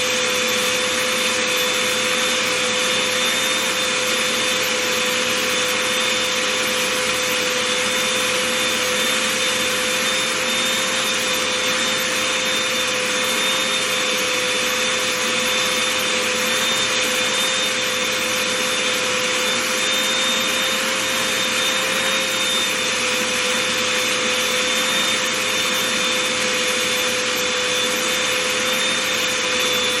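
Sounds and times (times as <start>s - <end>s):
vacuum cleaner whining: 0.0s - 30.0s.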